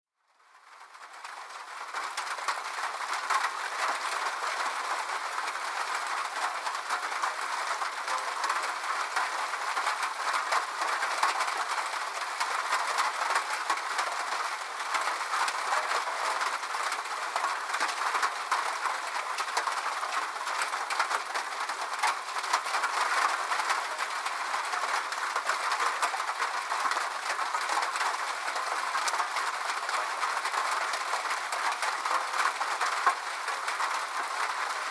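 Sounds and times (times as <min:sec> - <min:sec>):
rain on a metal roof: 0:00.2 - 0:34.9.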